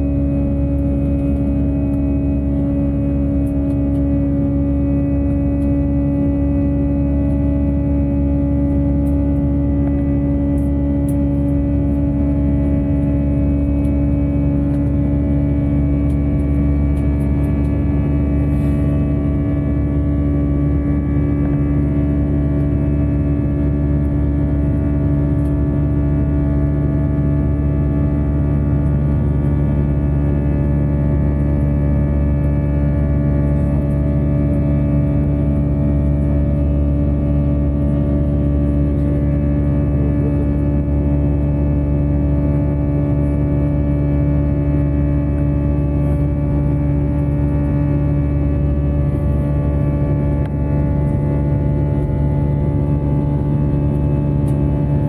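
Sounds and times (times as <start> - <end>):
jet engines droning in cabin: 0.0 - 55.0.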